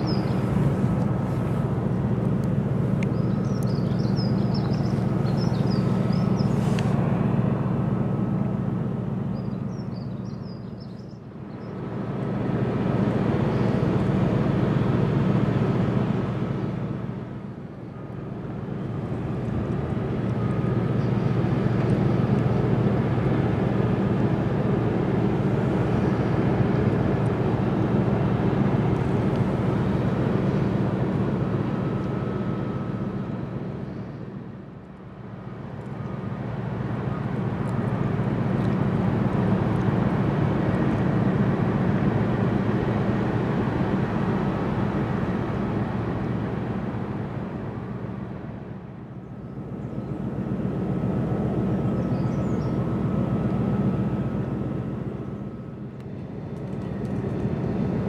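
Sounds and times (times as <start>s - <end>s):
ship engines rumbling: 0.0s - 58.0s
wind: 0.0s - 58.0s.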